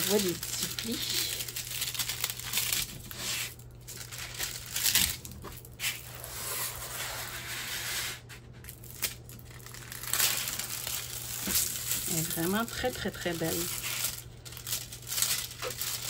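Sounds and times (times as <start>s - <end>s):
plastic film crinkling: 0.0s - 7.0s, 8.5s - 16.0s.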